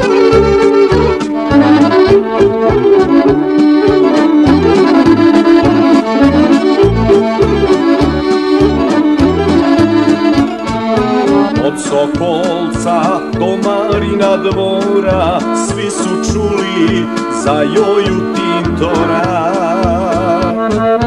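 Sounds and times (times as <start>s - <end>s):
accordion playing fast melody: 0.0s - 21.0s
bass line: 0.0s - 21.0s
steady beat: 0.0s - 21.0s.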